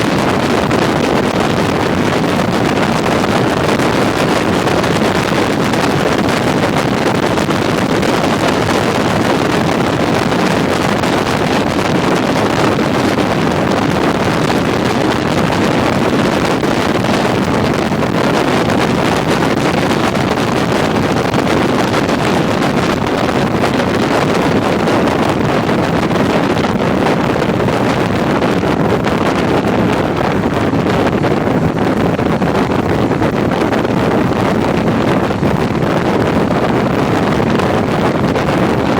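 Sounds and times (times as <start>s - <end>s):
motorcycle running: 0.0s - 38.9s
wind rushing over microphone: 0.0s - 38.9s.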